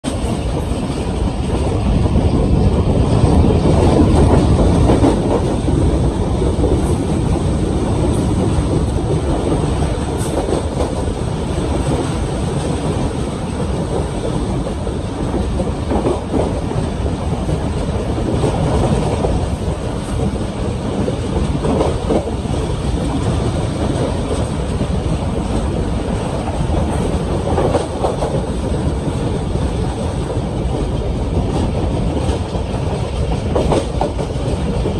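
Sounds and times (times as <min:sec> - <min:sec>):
train rumbling along track: 0:00.0 - 0:34.9.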